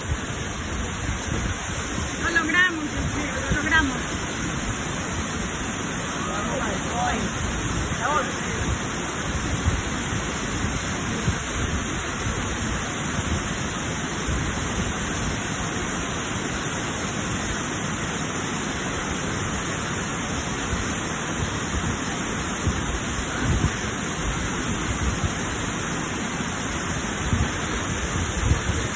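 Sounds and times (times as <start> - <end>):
waterfall rushing water: 0.0 - 28.9.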